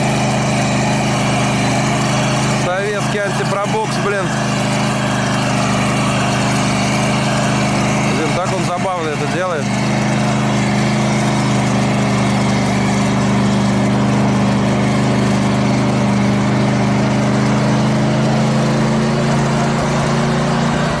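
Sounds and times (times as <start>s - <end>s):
truck engine running steadily: 0.0s - 21.0s.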